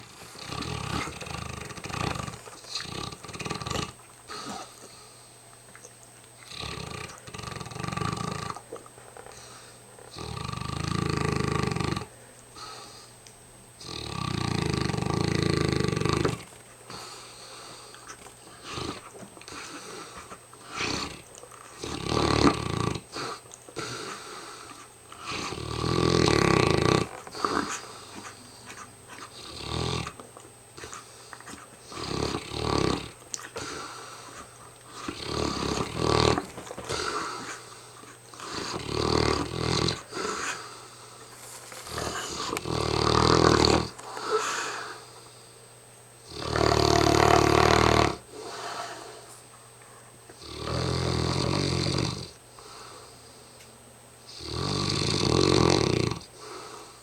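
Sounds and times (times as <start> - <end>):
dog snoring: 0.0 - 5.0, 6.4 - 13.1, 13.8 - 45.3, 46.2 - 49.3, 50.4 - 53.1, 54.3 - 57.0
dog breathing: 0.0 - 5.7, 6.4 - 13.2, 13.8 - 45.7, 46.3 - 53.7, 54.3 - 57.0.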